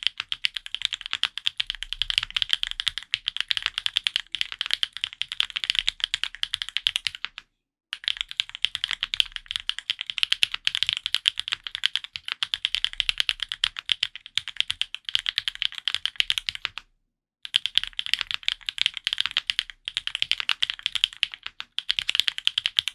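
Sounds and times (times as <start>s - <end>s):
fast typing on mechanical keyboard: 0.0s - 7.4s, 8.0s - 16.8s, 17.5s - 22.9s.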